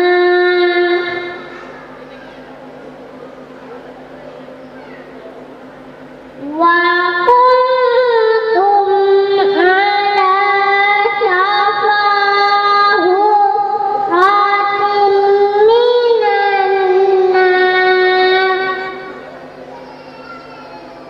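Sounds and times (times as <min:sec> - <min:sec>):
child reciting in sung style: 0:00.0 - 0:02.5, 0:06.4 - 0:21.0.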